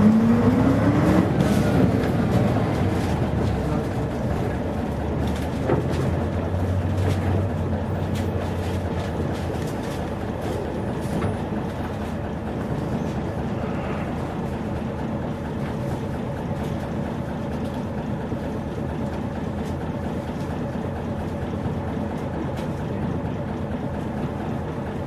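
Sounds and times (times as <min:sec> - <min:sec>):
bus engine hum: 0:00.0 - 0:25.0
road noise: 0:00.0 - 0:25.0.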